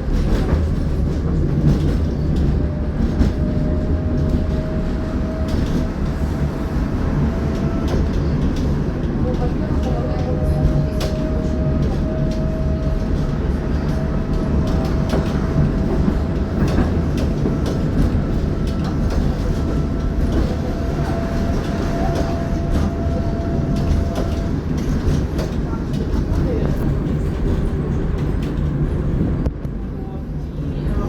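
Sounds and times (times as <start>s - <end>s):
tram wheels rumbling on rails: 0.0s - 31.0s.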